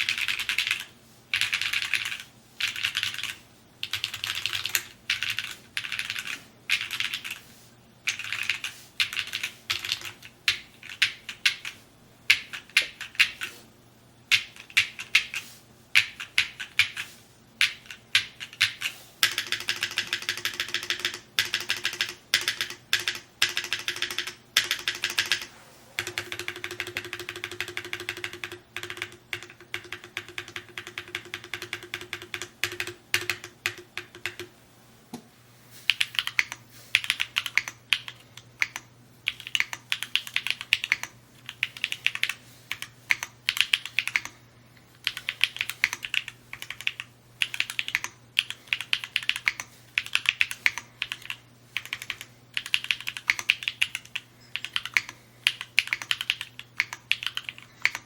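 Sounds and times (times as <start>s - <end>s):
typing on mechanical keyboard: 0.0s - 7.4s, 8.1s - 13.6s, 14.3s - 15.4s, 16.0s - 34.5s, 35.9s - 44.4s, 45.0s - 58.0s.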